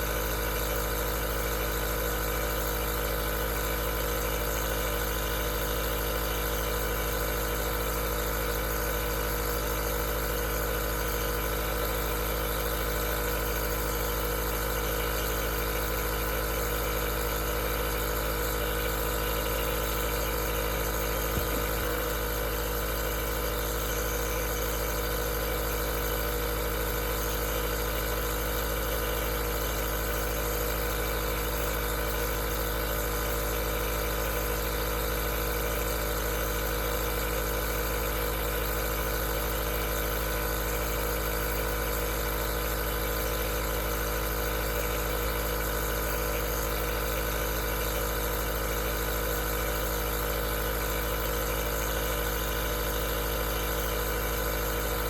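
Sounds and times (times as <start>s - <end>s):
compressor motor hum: 0.0s - 55.0s.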